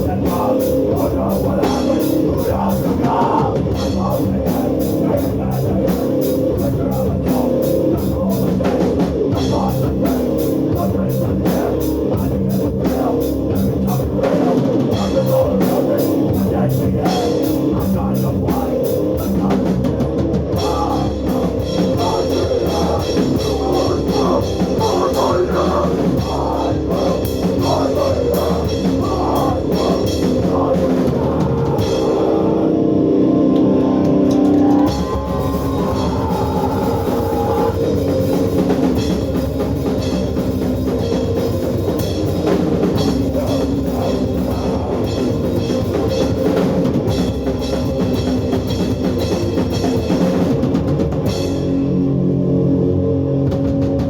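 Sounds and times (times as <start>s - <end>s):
fast pounding drums: 0.0s - 32.7s, 33.6s - 52.0s, 53.4s - 54.0s
distorted guitars and bass: 0.0s - 54.0s.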